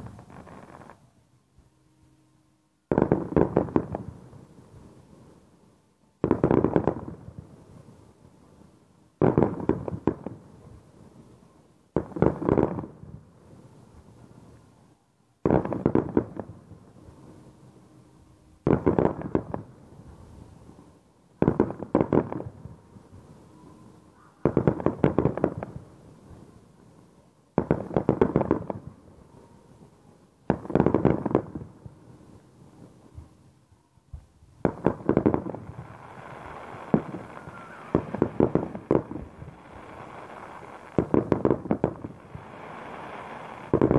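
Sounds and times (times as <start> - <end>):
firework crackles: 0.0 - 2.0, 2.8 - 43.9.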